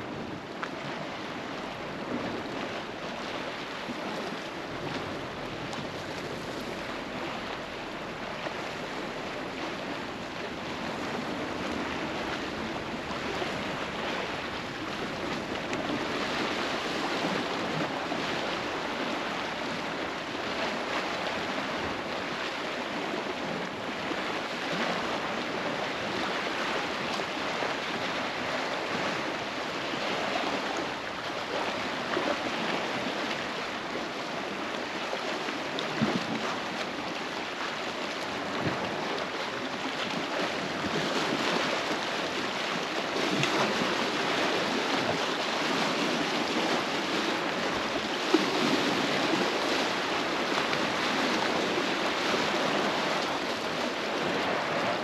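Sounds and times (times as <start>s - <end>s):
waves lapping against seawall: 0.0s - 55.0s.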